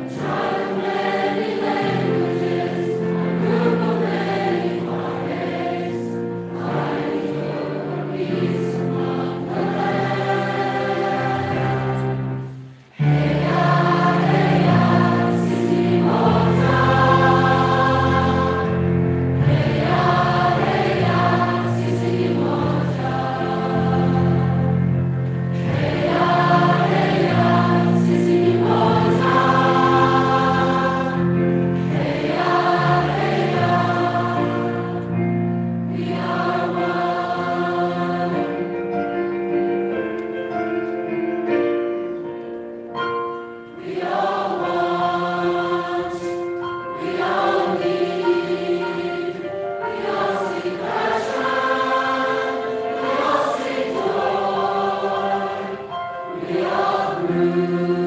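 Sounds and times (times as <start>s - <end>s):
choir singing: 0.0s - 39.3s, 43.2s - 58.0s
piano accompaniment: 0.0s - 58.0s.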